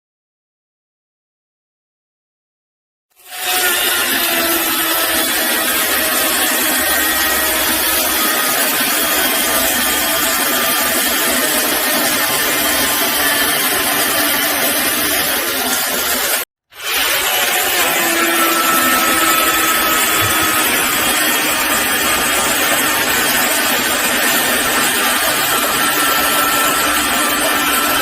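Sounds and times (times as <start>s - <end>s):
mini chainsaw whirring: 3.2s - 28.0s.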